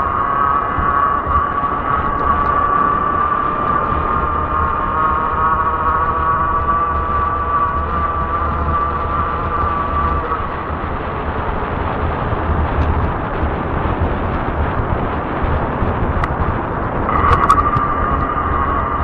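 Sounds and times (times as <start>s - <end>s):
electric motor whine: 0.0s - 19.0s
low pulsing rumble: 0.0s - 19.0s
tire noise on asphalt: 0.0s - 19.0s
wind on microphone: 0.0s - 19.0s.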